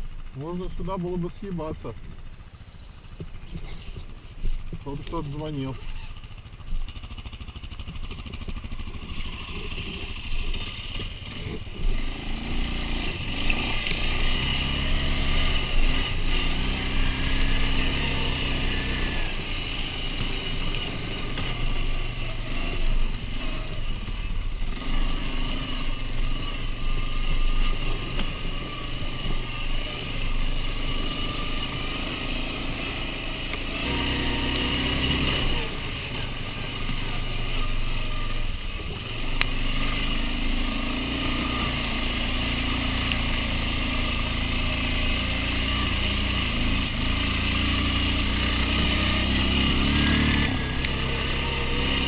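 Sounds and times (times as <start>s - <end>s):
quad bike engine revving: 3.4s - 52.0s.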